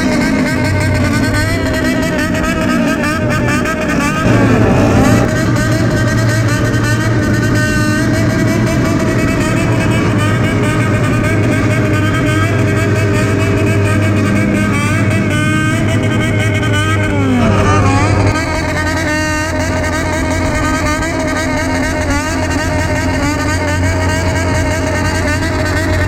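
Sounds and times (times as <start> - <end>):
motorcycle engine revving high: 0.0 - 26.0.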